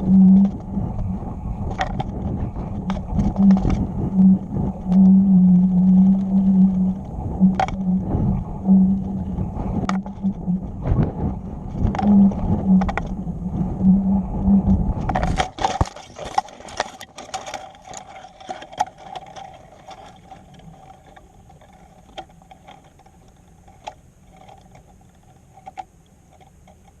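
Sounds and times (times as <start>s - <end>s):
faint ticks: 0.0s - 15.5s, 16.2s - 27.0s
low hum: 0.0s - 27.0s
wind rushing over camera: 0.0s - 27.0s.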